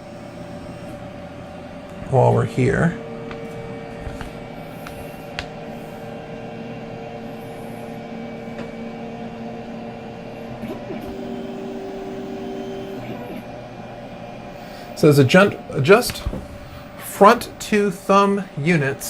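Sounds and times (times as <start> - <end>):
three-d printer motors humming: 0.0 - 2.3, 3.0 - 19.0.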